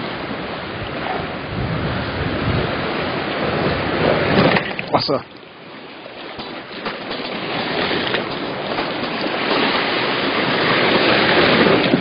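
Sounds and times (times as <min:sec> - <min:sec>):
waves splashing against rocks: 0:00.0 - 0:12.0.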